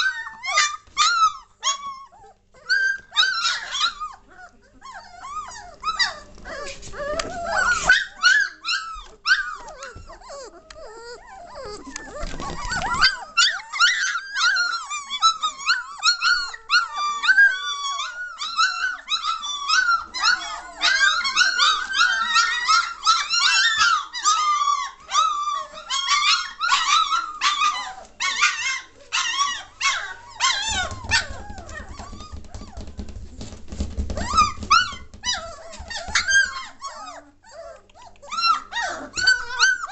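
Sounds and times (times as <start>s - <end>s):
puppies whining and yelping: 0.0s - 39.9s.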